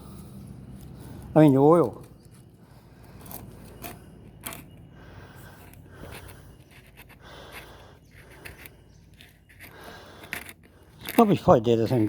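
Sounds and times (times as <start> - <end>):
faint clicks and scraping: 1.9 - 12.0.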